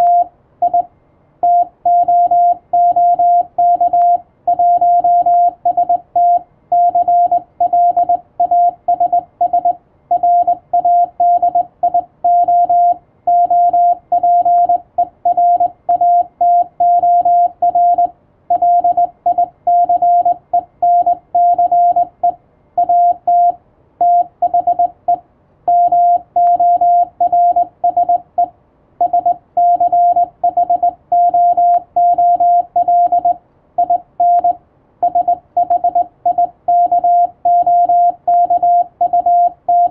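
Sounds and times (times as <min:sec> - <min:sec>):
morse code beeps: 0:00.0 - 0:39.9.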